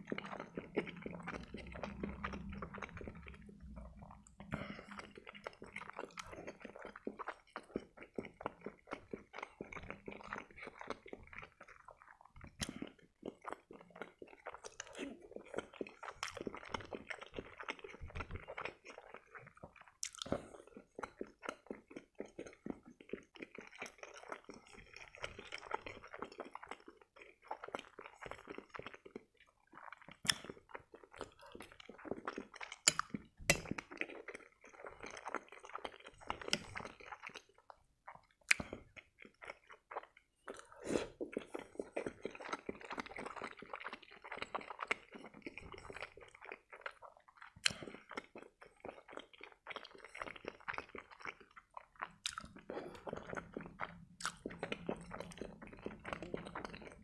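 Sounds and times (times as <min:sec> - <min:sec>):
wet chewing sounds: 0:00.0 - 0:57.0.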